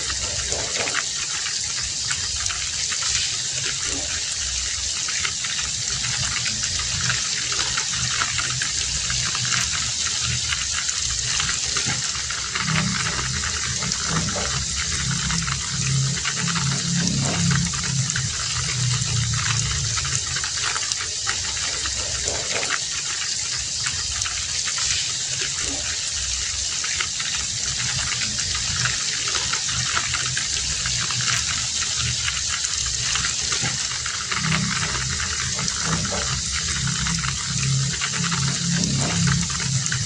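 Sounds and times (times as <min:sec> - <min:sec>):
heavy rain hissing: 0:00.0 - 0:40.0
pouring water rumble: 0:00.0 - 0:40.0.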